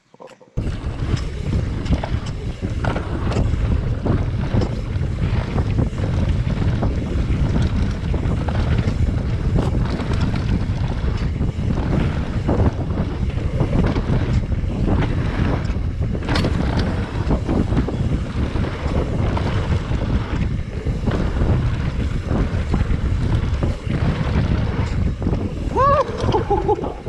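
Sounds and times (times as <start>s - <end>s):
bike knocking and rattling: 0.2s - 27.0s
wind buffeting camera: 0.6s - 27.0s.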